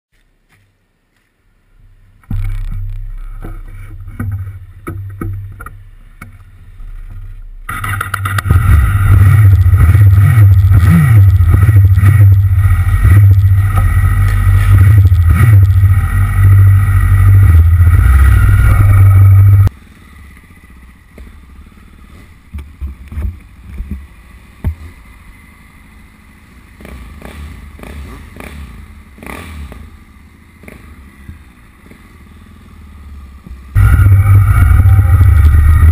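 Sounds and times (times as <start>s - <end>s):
motorcycle engines idling: 0.2s - 35.9s
quieter engine running: 0.4s - 35.9s.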